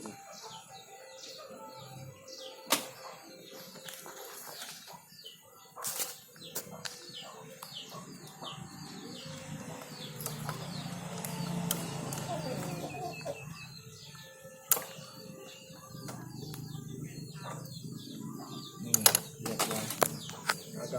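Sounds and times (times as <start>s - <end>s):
small bird chirping: 0.0s - 20.9s.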